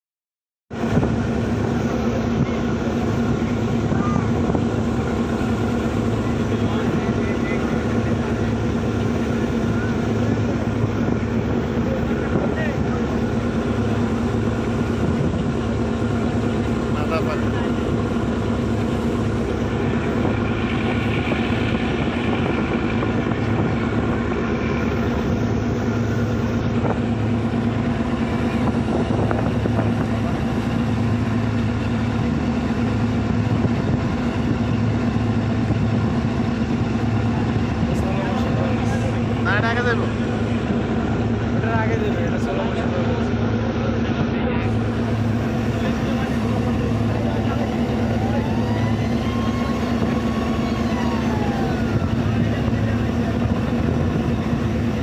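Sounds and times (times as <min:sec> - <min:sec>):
boat engine droning: 0:00.7 - 0:55.0.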